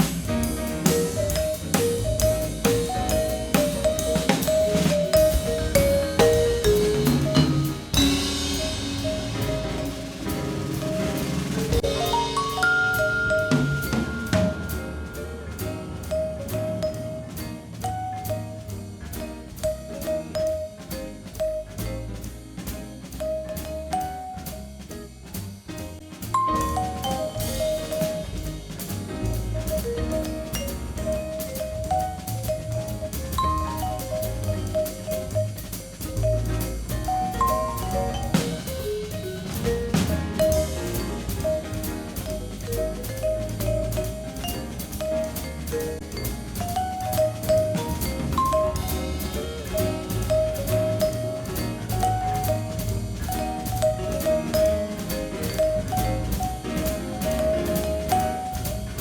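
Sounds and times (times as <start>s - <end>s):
jazzy music with drums and bass: 0.0s - 59.0s.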